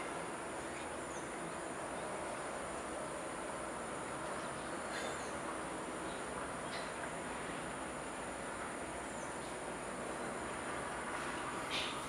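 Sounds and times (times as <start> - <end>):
insect drone: 0.0 - 12.0
steady hiss: 0.0 - 12.0.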